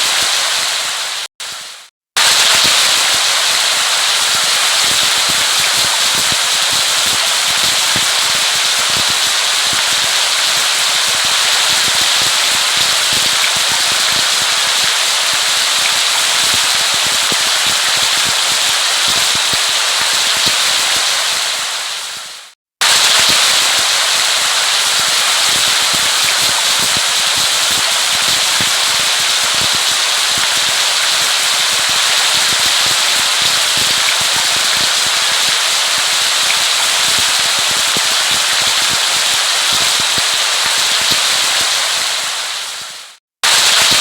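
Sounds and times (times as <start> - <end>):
heavy rain: 0.0 - 44.0.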